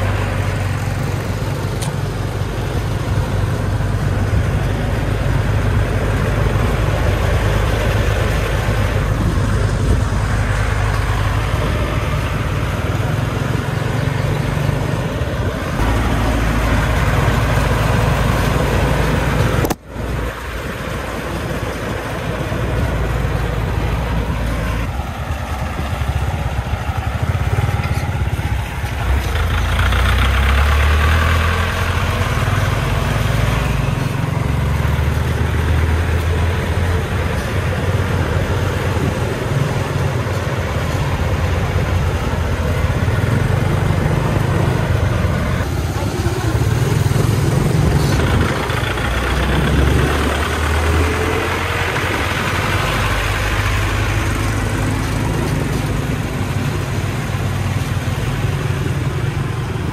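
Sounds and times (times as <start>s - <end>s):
diesel truck engine rumbling: 0.0s - 59.9s.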